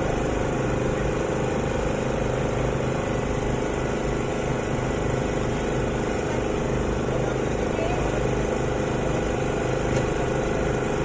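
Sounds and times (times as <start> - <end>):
motor humming steadily: 0.0 - 11.0.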